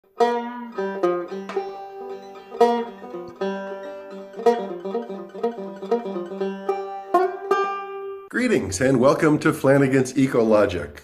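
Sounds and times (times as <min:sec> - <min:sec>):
plucked string instrument melody: 0:00.1 - 0:09.2.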